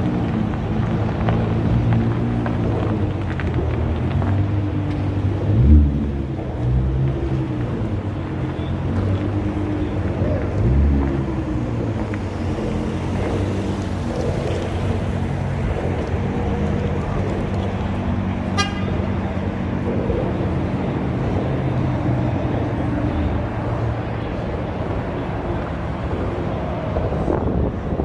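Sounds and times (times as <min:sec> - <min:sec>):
car engines rumbling: 0:00.0 - 0:28.0.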